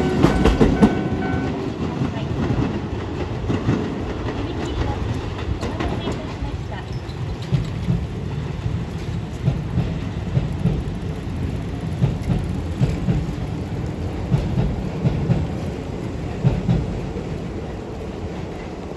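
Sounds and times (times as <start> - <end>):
electric train running past: 0.0 - 18.9
wheels clacking over rail joints: 0.0 - 18.9.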